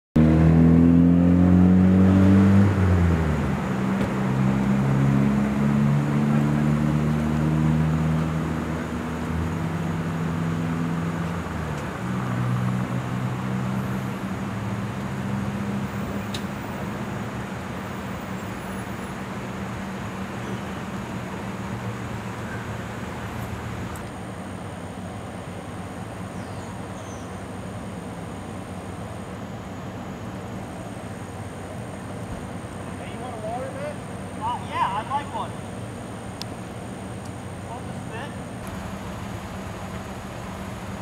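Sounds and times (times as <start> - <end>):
vehicle engine idling: 8.2 - 41.0.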